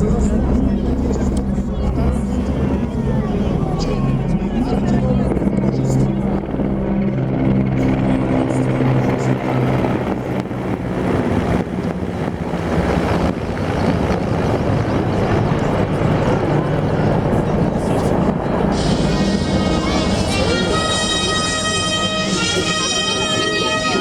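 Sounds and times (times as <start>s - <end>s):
helicopters flying past: 0.0s - 24.0s.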